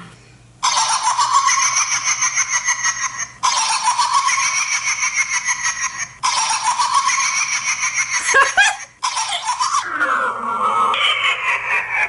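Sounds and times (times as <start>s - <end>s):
tinny recorded cackling laugh: 0.6s - 12.0s.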